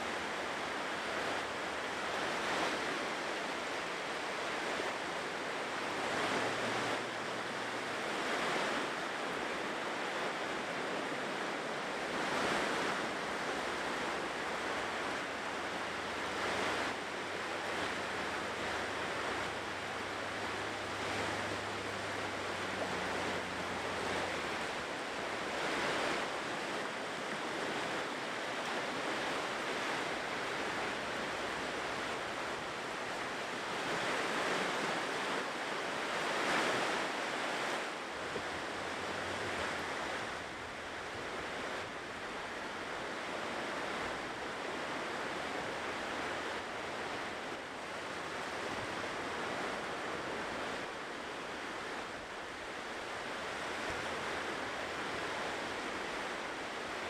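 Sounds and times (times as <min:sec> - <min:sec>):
ocean surf rushing: 0:00.0 - 0:57.0
waves breaking: 0:00.0 - 0:57.0.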